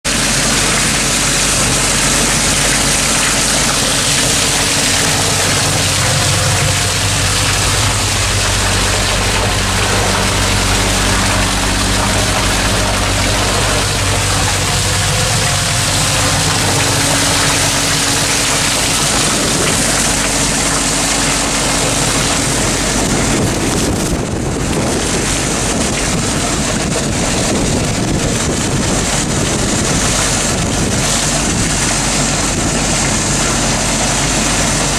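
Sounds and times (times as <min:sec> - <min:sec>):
agitator churning: 0:00.0 - 0:34.9
engine hum: 0:00.0 - 0:34.9
rushing water filling tank: 0:00.0 - 0:34.9.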